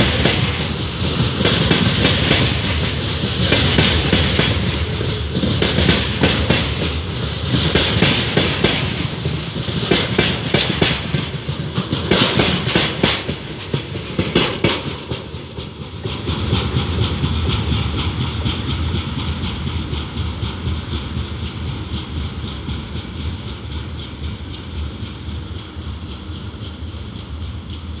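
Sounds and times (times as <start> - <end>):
train wagons rumbling: 0.0 - 28.0
wheels clickety-clack on rail joints: 0.0 - 28.0.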